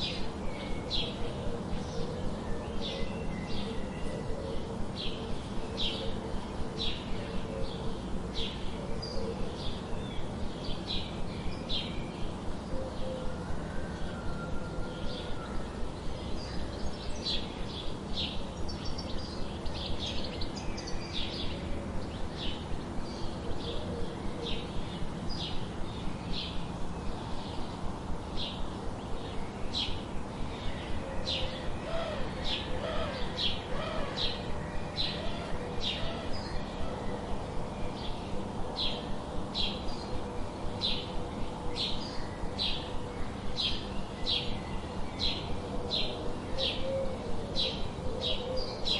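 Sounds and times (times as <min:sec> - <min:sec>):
faint low wavering bird calls: 0:00.0 - 0:48.9.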